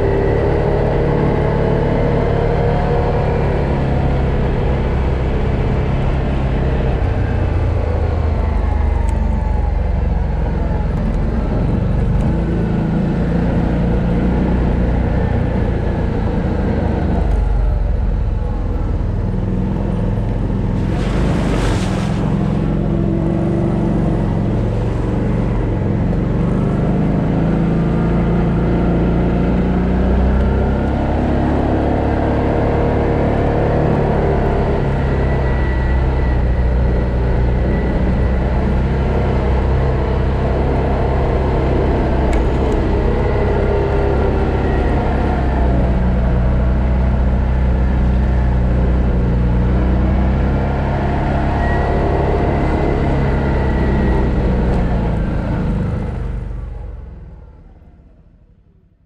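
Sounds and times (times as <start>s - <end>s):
quad engine running: 0.0s - 57.6s.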